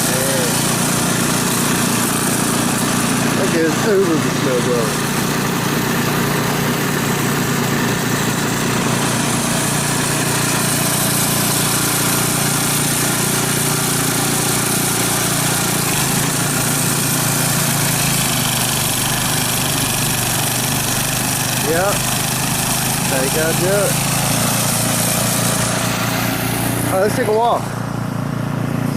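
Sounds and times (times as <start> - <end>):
snowblower engine running: 0.0 - 28.9.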